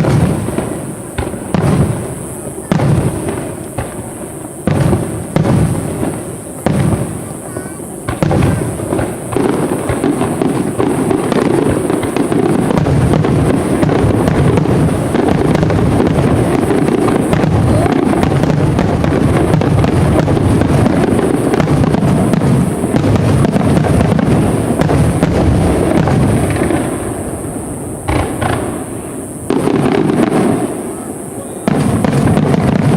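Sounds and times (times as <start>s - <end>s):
fireworks booms and cracking bursts: 0.0s - 32.9s.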